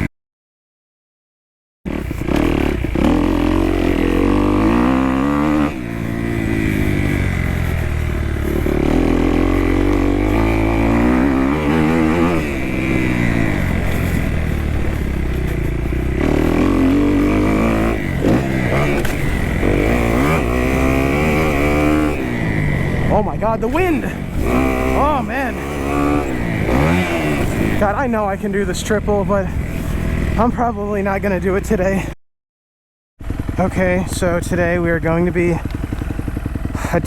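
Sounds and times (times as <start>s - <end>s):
motorcycle engine revving: 1.9s - 32.1s, 33.2s - 37.0s.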